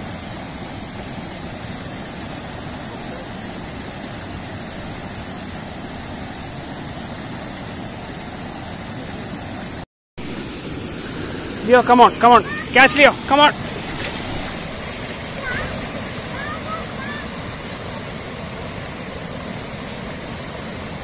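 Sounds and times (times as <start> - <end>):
water rushing in rocky stream: 0.0 - 21.0.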